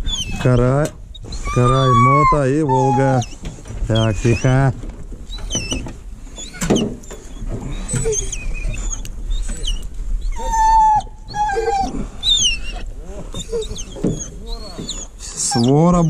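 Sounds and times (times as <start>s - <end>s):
hounds whining and yelping: 0.0s - 16.0s.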